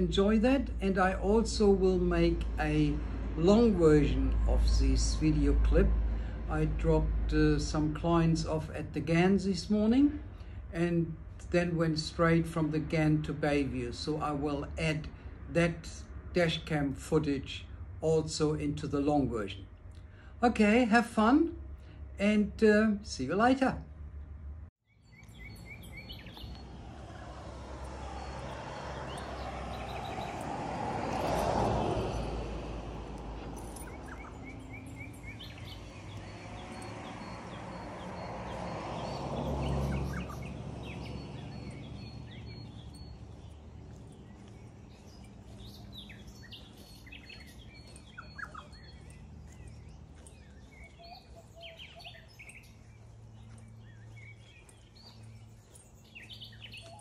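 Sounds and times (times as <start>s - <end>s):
birds chirping: 0.0s - 57.0s
vehicles passing by: 0.0s - 57.0s.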